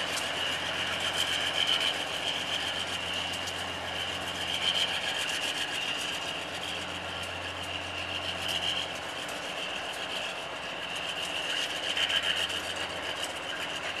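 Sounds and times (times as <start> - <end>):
diesel locomotive engine hum: 0.0 - 14.0
hiss: 0.0 - 14.0.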